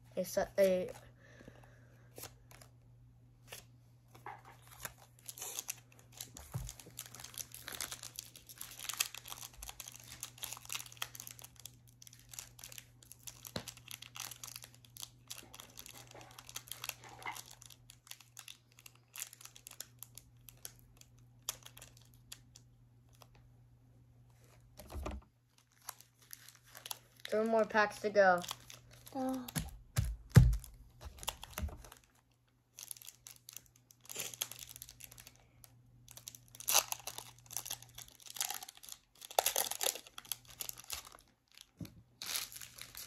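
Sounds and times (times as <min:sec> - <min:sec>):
foil wrapper crinkling and tearing: 0:04.6 - 0:23.4, 0:25.5 - 0:43.0.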